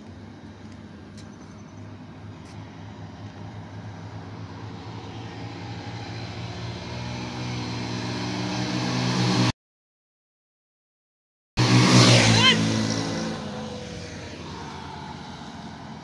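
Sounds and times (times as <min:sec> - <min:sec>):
motorcycle engines racing: 0:00.8 - 0:09.5, 0:11.6 - 0:16.0.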